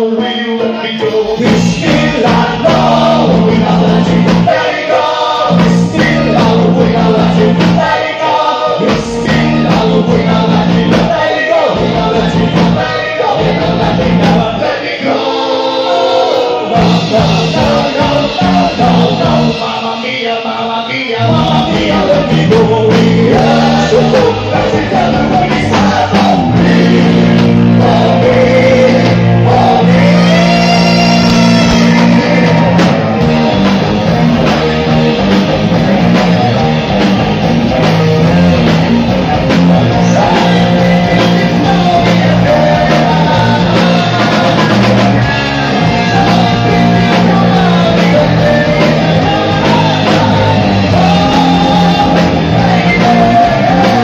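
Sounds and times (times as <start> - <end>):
man singing into microphone: 0.0 - 32.9, 39.3 - 54.0
live rock band playing: 0.0 - 54.0.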